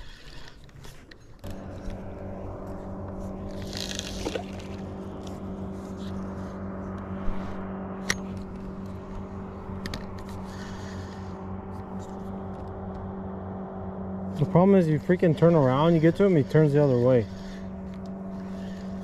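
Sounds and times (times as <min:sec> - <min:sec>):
electric trolling motor humming: 0:00.0 - 0:19.0.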